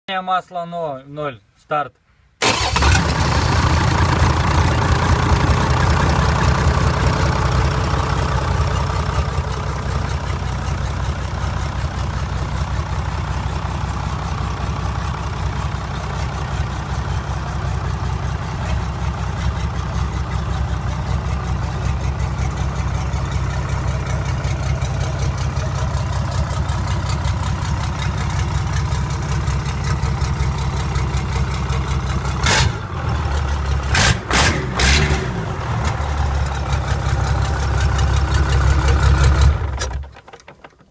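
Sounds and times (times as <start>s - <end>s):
diesel engine starting and idling: 2.4s - 40.3s.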